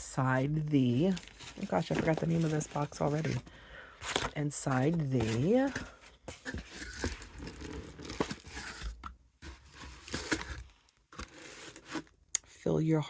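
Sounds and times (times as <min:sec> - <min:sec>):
packaging rustling and crinkling: 0:00.8 - 0:12.2.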